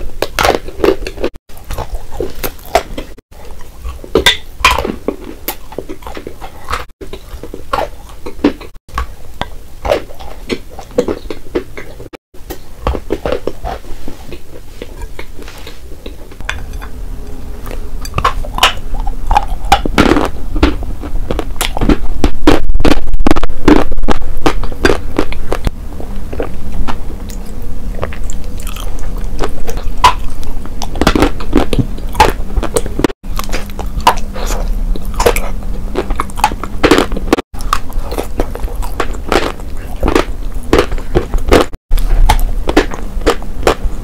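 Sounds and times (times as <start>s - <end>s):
biting and crunching chalk: 0.2s - 16.6s, 18.0s - 27.4s, 28.0s - 44.0s
wet chewing: 0.2s - 16.9s, 17.6s - 43.9s.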